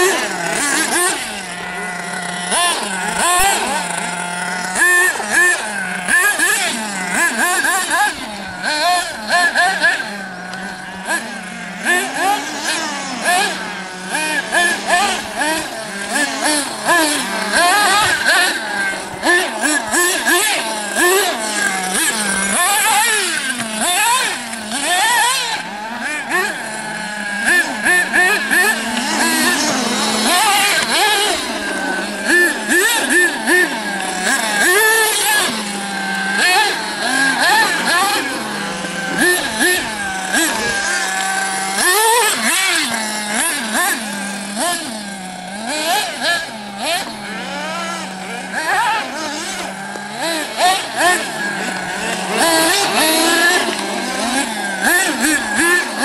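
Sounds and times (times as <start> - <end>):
small nitro engine revving: 0.0 - 56.0.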